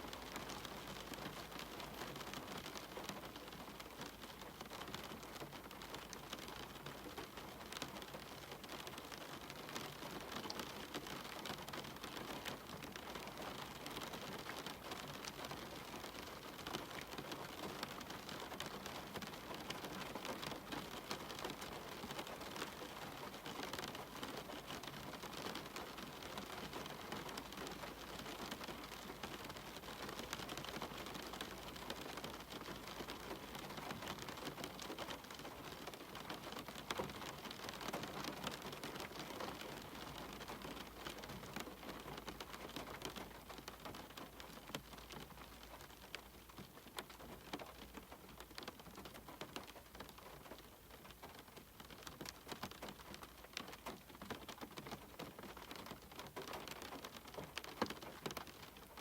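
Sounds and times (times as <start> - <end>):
rain pattering on window and roof: 0.0 - 59.0.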